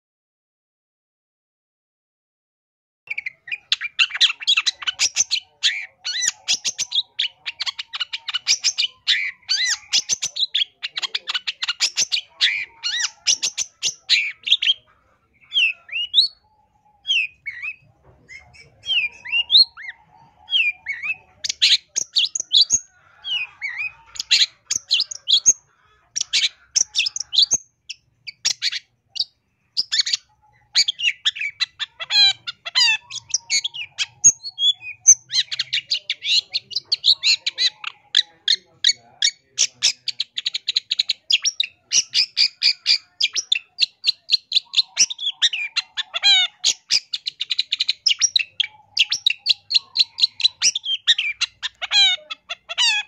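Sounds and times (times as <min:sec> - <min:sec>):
bird singing chirps and trills: 0:03.1 - 0:53.0.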